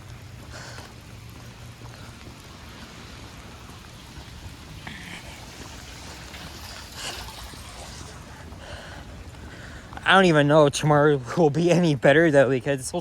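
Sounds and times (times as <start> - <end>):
rain hiss: 0.0 - 13.0
trickling water: 0.0 - 13.0.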